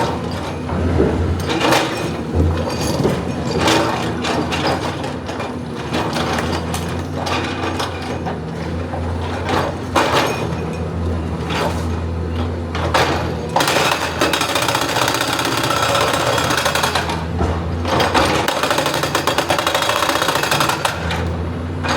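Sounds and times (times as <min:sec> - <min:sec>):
excavator diesel engine running: 0:00.0 - 0:21.9.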